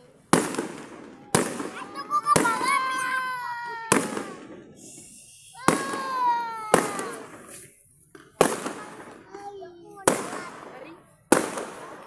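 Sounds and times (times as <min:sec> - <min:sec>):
fireworks bangs echoing: 0:00.0 - 0:12.0.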